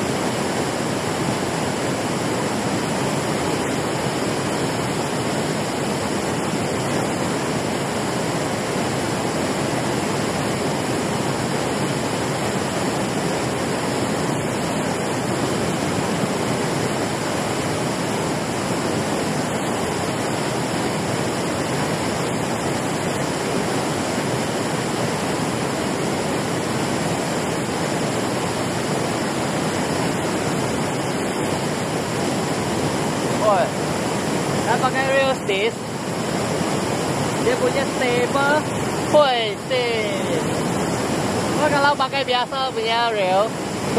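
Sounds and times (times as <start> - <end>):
water roaring down spillway: 0.0 - 43.9.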